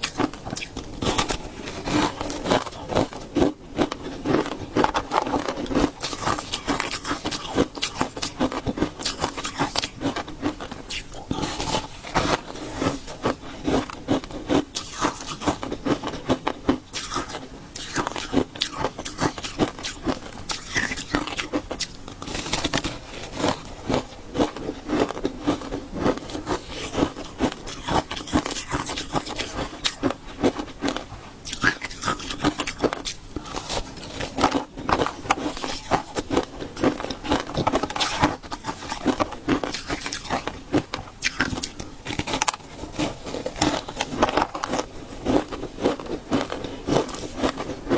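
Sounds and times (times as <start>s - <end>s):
ice being chewed: 0.0s - 47.9s.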